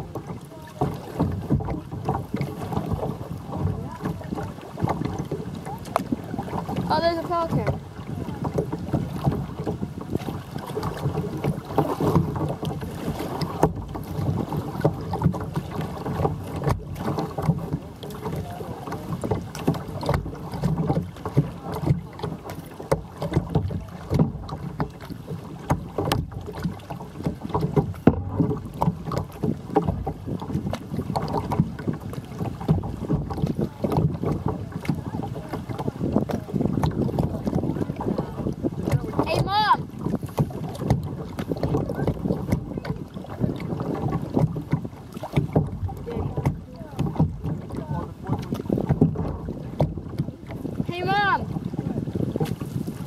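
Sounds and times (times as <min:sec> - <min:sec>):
water splashing against kayak hull: 0:00.0 - 0:53.0
wind buffeting microphone: 0:00.0 - 0:53.0.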